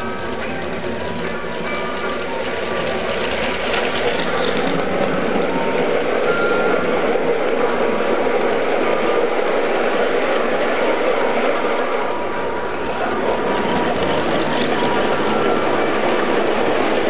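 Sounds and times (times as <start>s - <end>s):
model train wheels rolling on rails: 0.0s - 17.0s.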